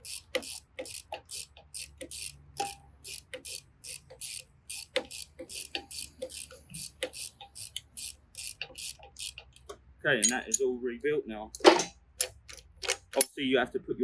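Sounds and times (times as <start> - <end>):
ratchet wrench clicking: 0.0 - 10.7, 11.6 - 13.4.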